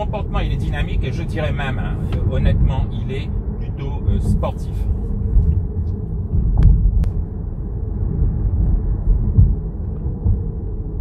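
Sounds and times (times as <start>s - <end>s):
road and tyre rumble in car cabin: 0.0s - 11.0s.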